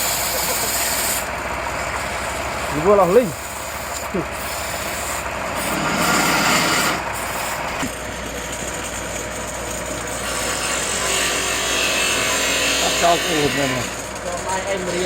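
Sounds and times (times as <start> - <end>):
cutting tool scraping wood: 0.0 - 7.9, 9.7 - 15.0
wood lathe running: 0.0 - 15.0.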